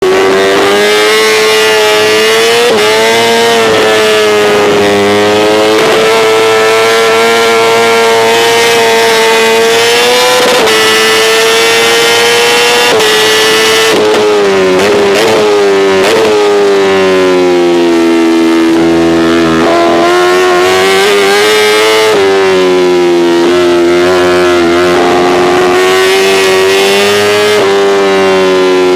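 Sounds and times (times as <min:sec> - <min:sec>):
motorcycle engine on rev limiter: 0:00.0 - 0:28.9.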